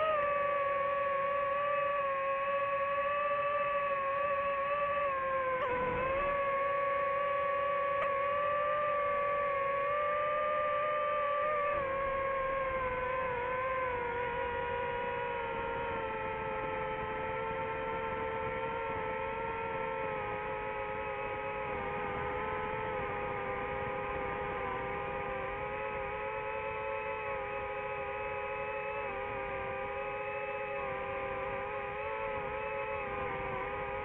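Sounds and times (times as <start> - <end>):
drone propellers whining: 0.0 - 34.0.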